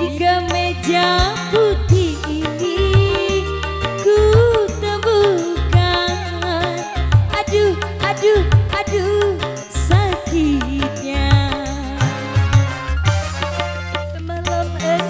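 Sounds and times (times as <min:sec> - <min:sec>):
bass: 0:00.0 - 0:15.0
bending lead melody: 0:00.0 - 0:15.0
hand drums: 0:00.5 - 0:15.0.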